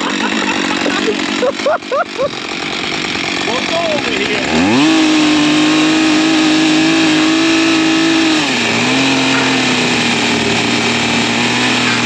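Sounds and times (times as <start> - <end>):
chainsaw cutting boards: 0.0 - 12.0.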